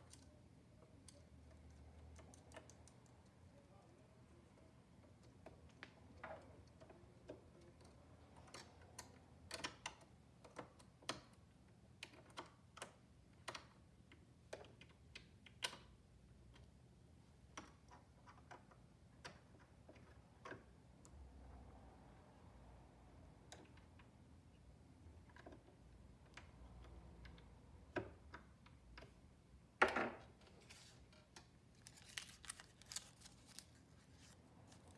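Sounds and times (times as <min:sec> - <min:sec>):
small parts clicking and tapping: 0:00.0 - 0:21.2, 0:23.4 - 0:34.9.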